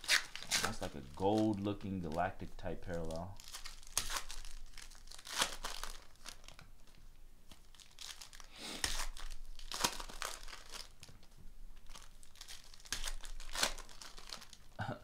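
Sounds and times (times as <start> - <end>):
foil wrapper crinkling and tearing: 0.0 - 14.8.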